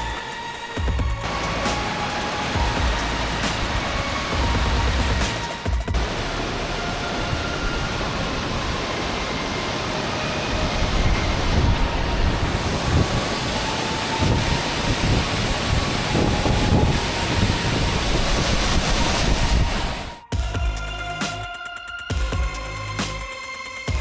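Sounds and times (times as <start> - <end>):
waterfall roaring: 0.0 - 20.2
wind buffeting microphone: 0.8 - 20.3.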